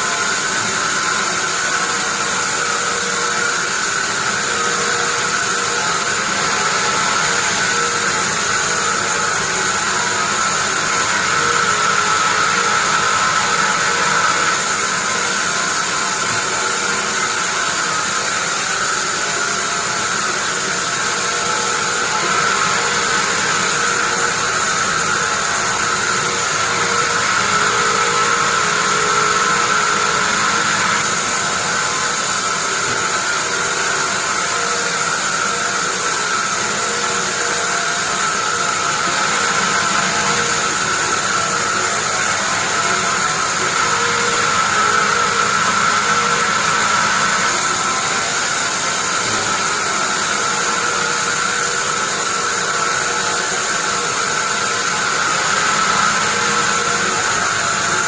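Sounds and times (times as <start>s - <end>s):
bandsaw whining: 0.0s - 58.0s.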